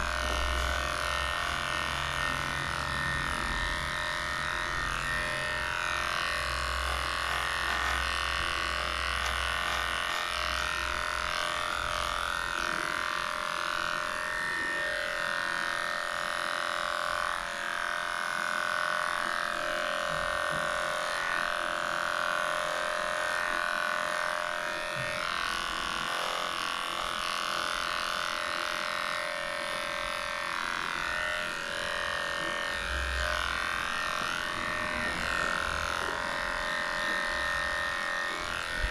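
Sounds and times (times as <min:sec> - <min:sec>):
animal clipper humming: 0:00.0 - 0:38.9.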